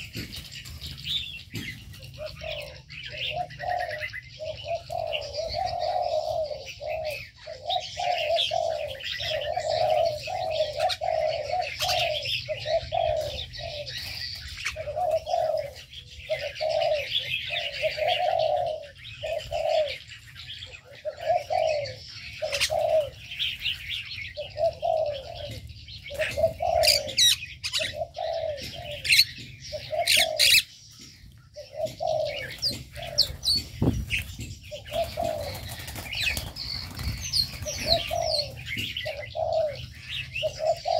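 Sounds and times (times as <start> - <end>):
doves cooing: 0.0 - 40.9
small birds chirping: 0.0 - 40.9.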